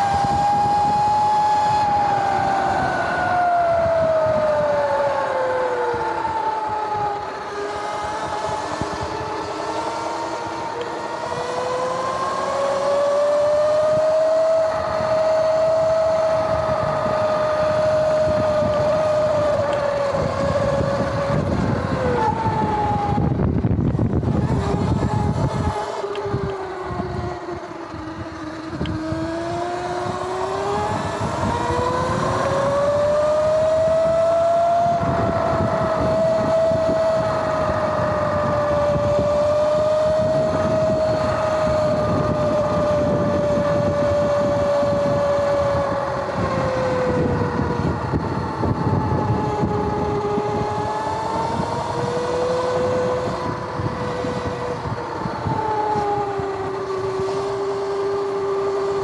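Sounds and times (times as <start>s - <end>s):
electric motor and chain whine: 0.0s - 59.0s.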